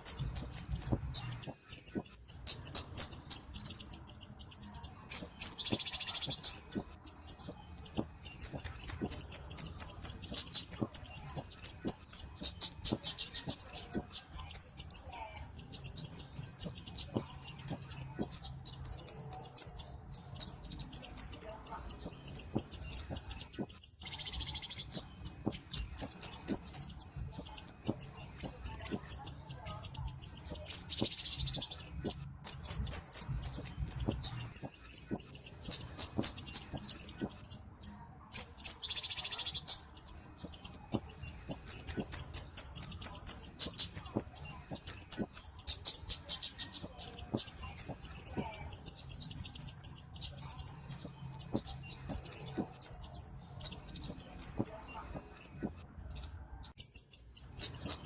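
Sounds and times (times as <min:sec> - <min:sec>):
bird singing ticking notes: 0:00.0 - 0:58.0.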